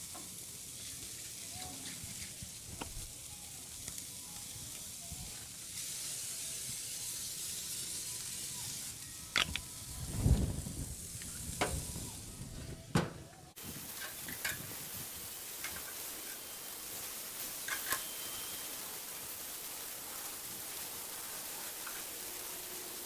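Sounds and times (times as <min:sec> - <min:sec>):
meat sizzling on a grill: 0:00.0 - 0:12.8, 0:13.4 - 0:23.0.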